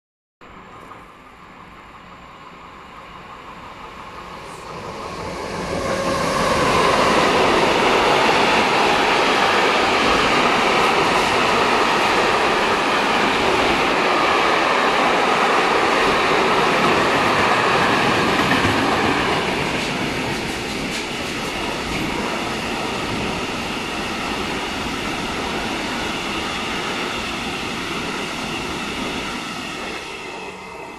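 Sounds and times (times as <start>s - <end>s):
freight train wheels rolling: 3.8s - 30.9s.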